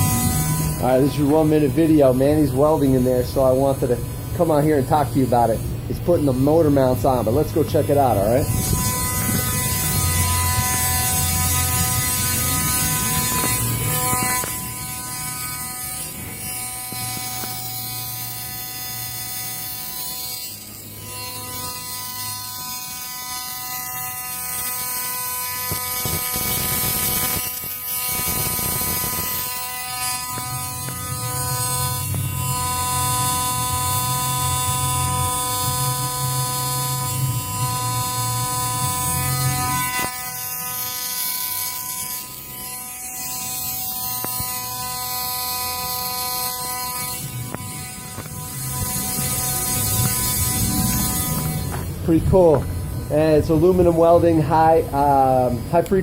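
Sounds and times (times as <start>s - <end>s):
welding arc buzzing: 0.0s - 56.0s.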